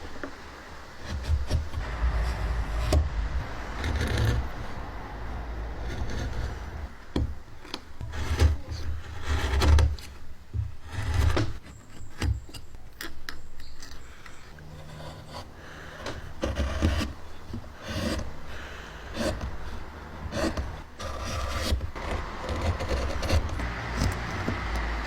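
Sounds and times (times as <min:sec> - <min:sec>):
rubbing and scraping on wood: 0:00.0 - 0:25.0.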